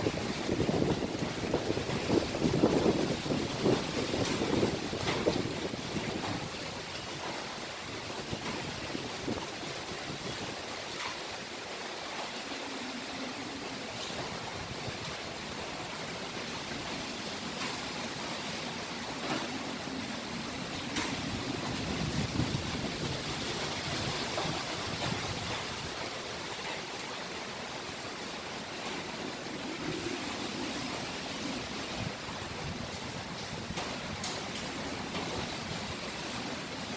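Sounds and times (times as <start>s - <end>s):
strong wind blowing: 0.0s - 11.4s, 12.5s - 36.9s.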